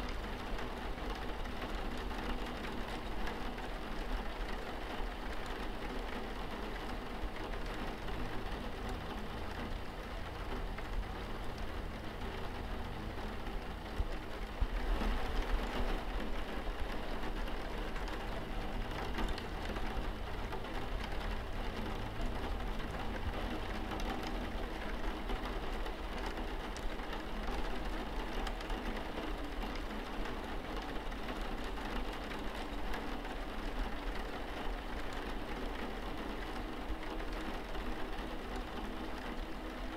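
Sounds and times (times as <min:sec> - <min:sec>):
rain on a window pane: 0:00.0 - 0:39.9.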